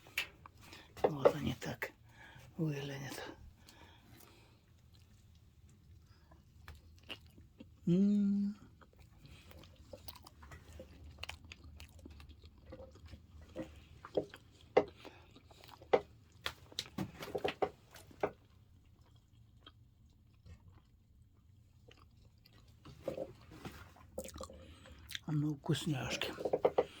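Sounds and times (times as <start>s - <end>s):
person chewing: 3.6s - 25.3s.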